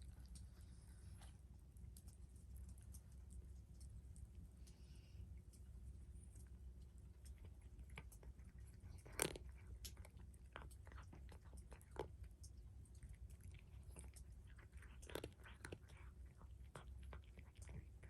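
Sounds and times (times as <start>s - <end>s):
cat chewing food: 0.0s - 18.0s.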